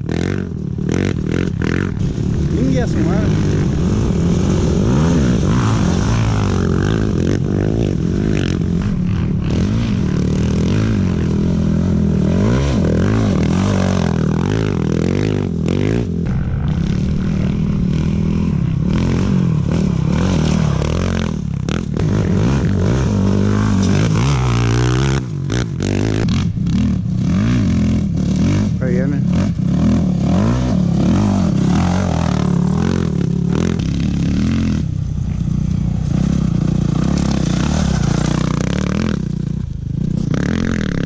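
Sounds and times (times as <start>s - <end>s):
racing engines revving: 0.0s - 41.0s.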